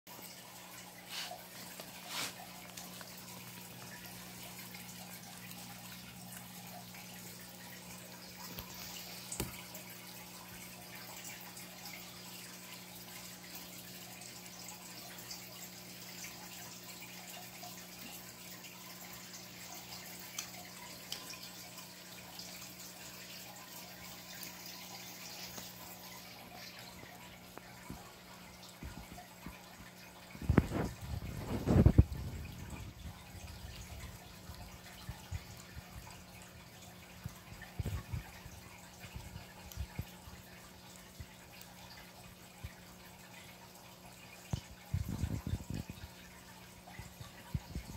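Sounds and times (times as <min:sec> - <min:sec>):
low hum and hiss: 0:00.2 - 0:47.9.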